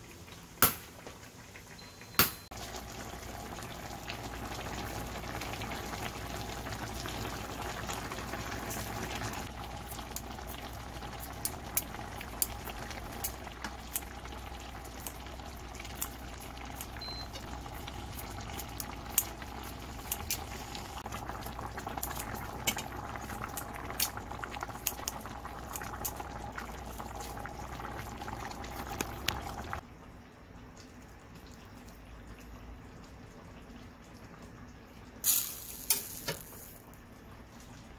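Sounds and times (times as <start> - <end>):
stew bubbling in a pan: 0.0 - 37.9.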